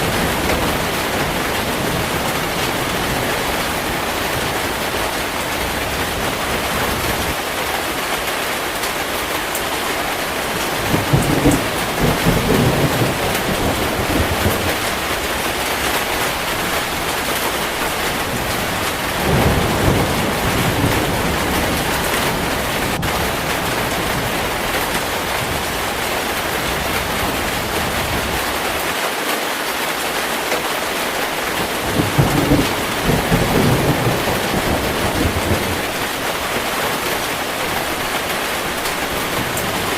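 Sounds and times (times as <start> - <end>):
thunder rumbling: 0.0 - 7.5, 9.5 - 28.8, 31.4 - 39.9
heavy rain falling: 0.0 - 39.9.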